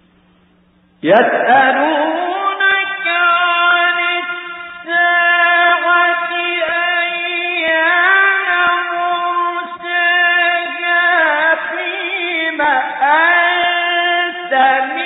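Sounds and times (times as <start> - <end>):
man chanting melodically: 1.0 - 15.0.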